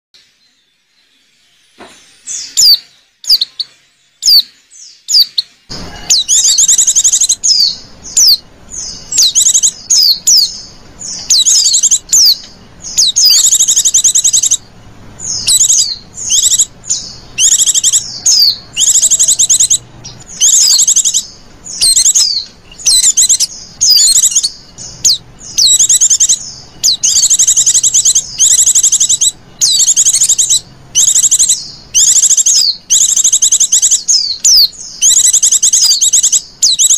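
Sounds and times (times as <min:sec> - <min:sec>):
small birds chirping and trilling: 0:00.2 - 0:36.9.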